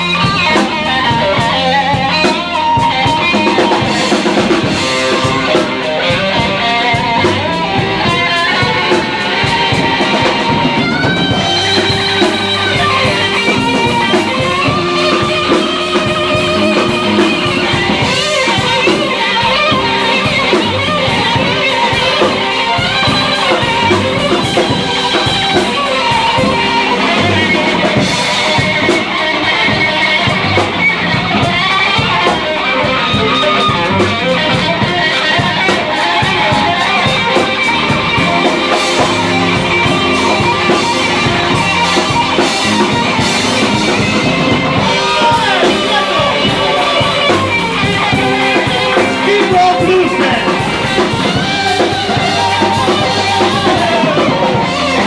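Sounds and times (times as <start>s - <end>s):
drum kit: 0.0s - 55.0s
electric guitar lead: 0.0s - 55.0s.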